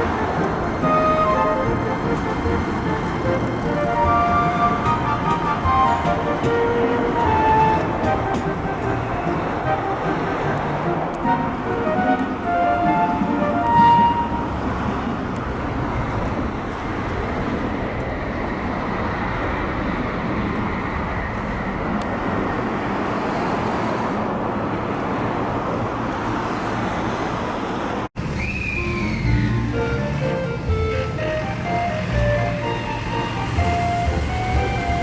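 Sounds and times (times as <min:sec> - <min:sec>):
passing trains: 0:00.0 - 0:35.0
road traffic: 0:00.0 - 0:35.0.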